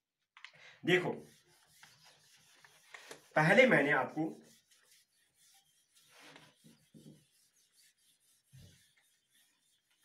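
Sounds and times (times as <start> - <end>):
eraser wiping whiteboard: 0.8 - 10.0.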